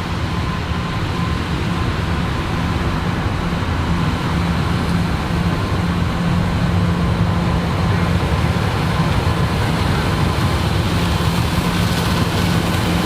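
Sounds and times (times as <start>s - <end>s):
farm machine engine droning: 0.0s - 13.0s.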